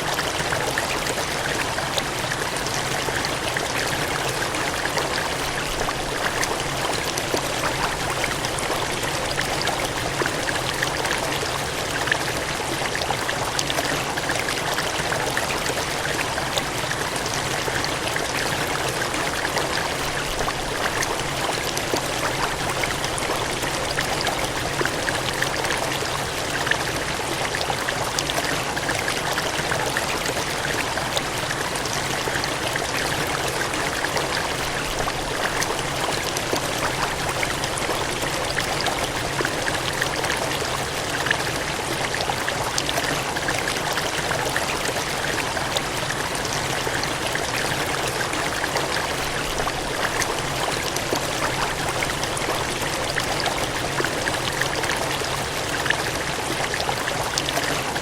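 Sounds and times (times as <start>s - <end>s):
gushing water: 0.0s - 58.0s.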